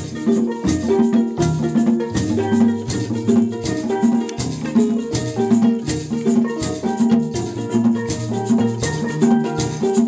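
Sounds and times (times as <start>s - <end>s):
plucked string instrument melody: 0.0s - 10.0s
shaken rattle beat: 0.0s - 10.0s.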